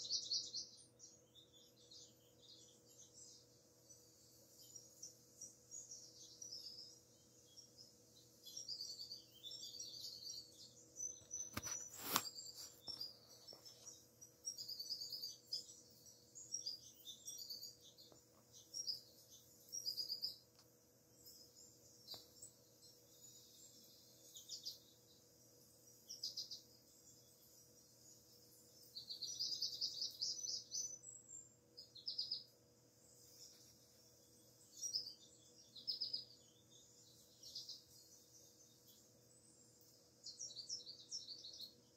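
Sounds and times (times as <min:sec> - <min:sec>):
songbirds chirping on television: 0:00.0 - 0:41.9.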